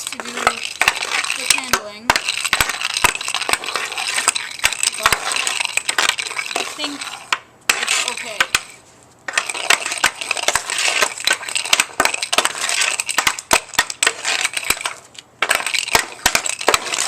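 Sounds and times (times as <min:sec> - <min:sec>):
hockey stick clicking a puck: 0:00.2 - 0:17.0.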